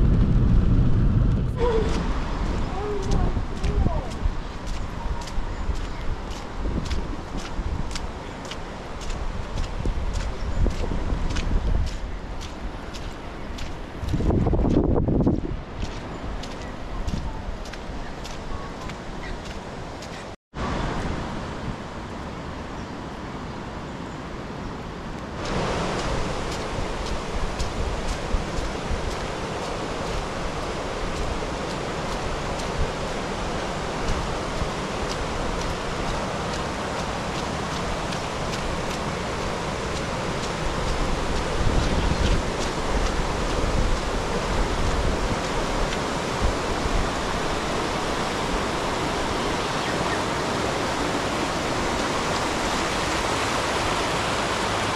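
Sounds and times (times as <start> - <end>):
wind rumble on microphone: 0.0 - 23.8, 24.6 - 54.9
floodwater rushing: 0.0 - 54.9.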